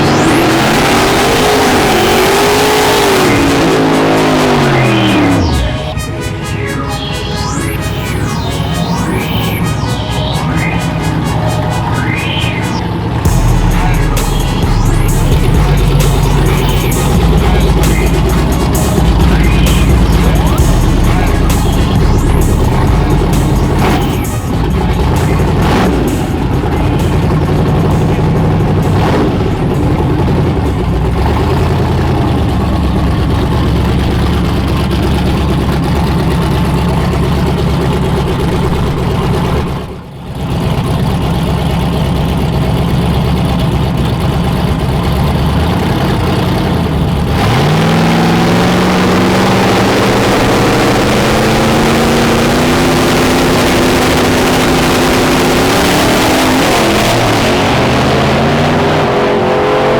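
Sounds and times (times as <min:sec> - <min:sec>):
car engine running and accelerating: 0:00.0 - 0:59.9.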